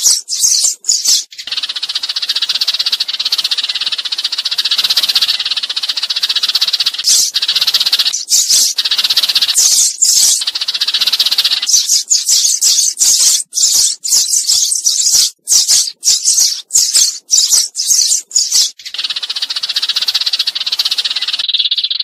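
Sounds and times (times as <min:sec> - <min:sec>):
sparrows chattering: 0:00.0 - 0:22.0.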